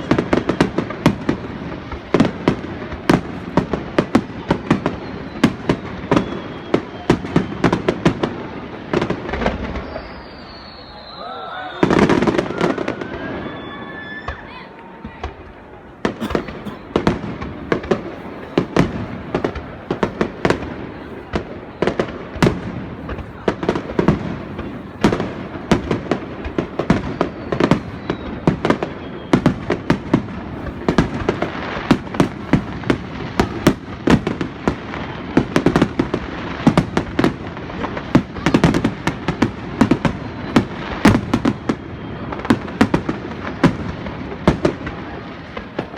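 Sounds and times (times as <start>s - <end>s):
whistling firework shells: 0.0s - 35.9s, 37.9s - 45.9s
firework burst: 0.0s - 45.9s
rapid firework bangs and crackles: 0.0s - 45.9s.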